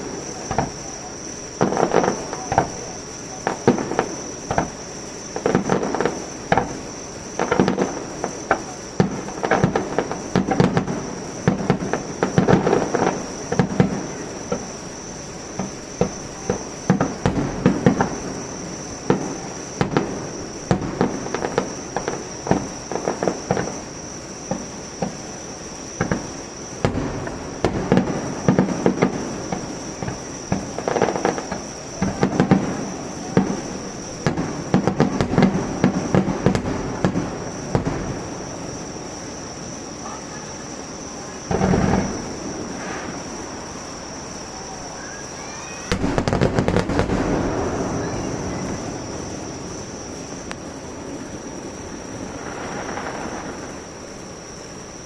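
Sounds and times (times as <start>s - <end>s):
fireworks bangs: 0.0s - 55.0s
insects chirring: 0.0s - 55.0s.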